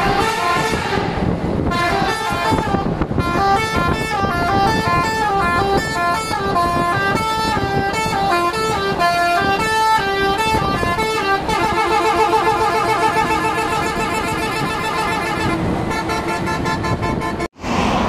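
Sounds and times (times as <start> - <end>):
musical air horn playing a tune: 0.0 - 17.6
lorry engine: 0.0 - 18.0
road noise: 0.0 - 18.0.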